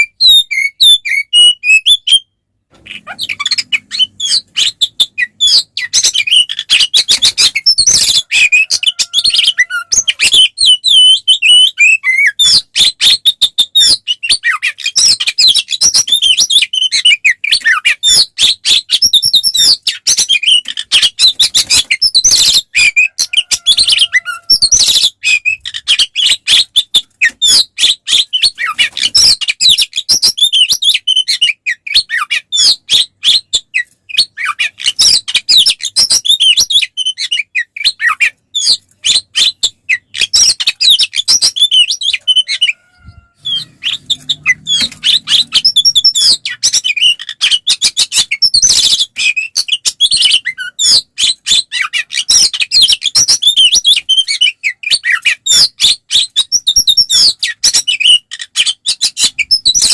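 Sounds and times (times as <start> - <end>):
songbird singing loudly: 2.9 - 59.9.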